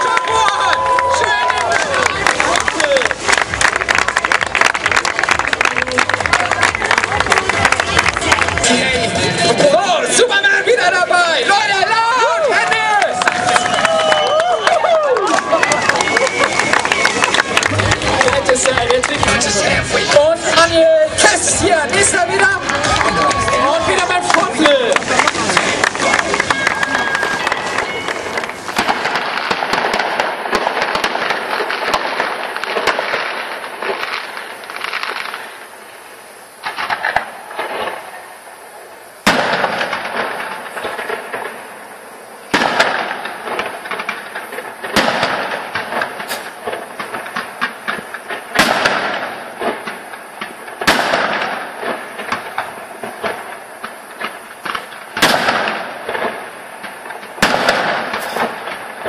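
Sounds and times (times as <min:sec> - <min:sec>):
firework shells bursting with bangs: 0:00.0 - 0:09.7, 0:12.7 - 0:59.0
fireworks crackling: 0:00.0 - 0:59.0.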